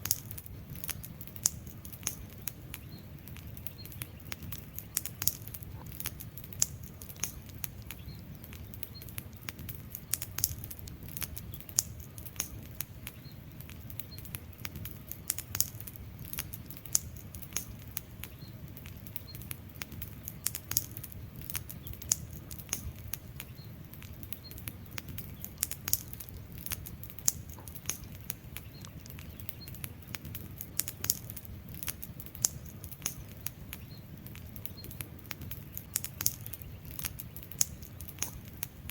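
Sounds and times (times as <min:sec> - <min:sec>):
low rumble of burning fire: 0:00.0 - 0:38.9
wood fire pops and snaps: 0:00.0 - 0:38.9.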